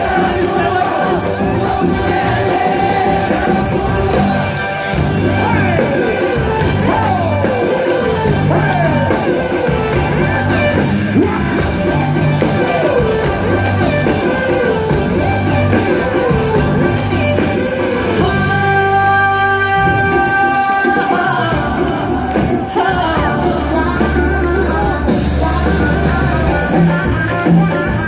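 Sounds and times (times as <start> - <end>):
male singer: 0.0 - 13.3, 17.7 - 28.0
live band playing: 0.0 - 28.0.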